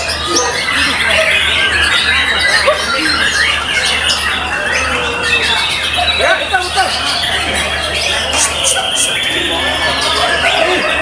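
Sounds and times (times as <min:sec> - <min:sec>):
bird whistles and chirps: 0:00.0 - 0:11.0
songbirds singing and chattering: 0:00.0 - 0:11.0.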